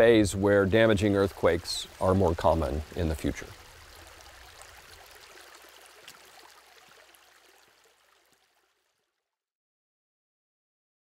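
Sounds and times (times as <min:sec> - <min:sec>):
creek trickling over stones: 0:00.0 - 0:09.3.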